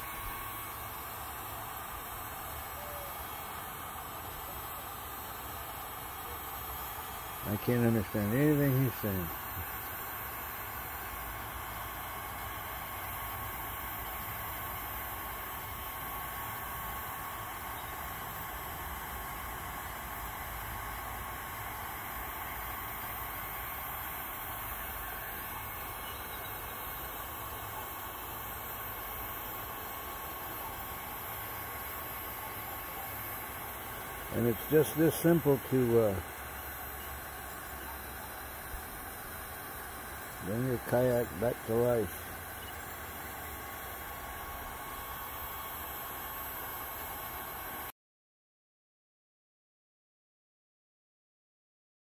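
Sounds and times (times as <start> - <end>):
heat gun fan blowing: 0.0 - 47.9.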